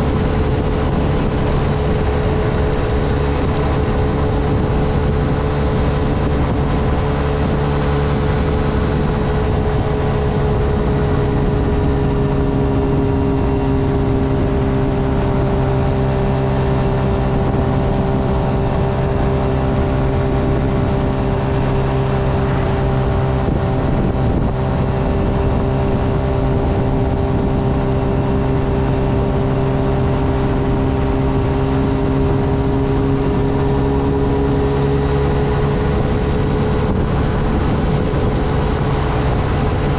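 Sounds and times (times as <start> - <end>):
small motorcycle engine: 0.0 - 39.9
wind and road noise: 0.0 - 39.9.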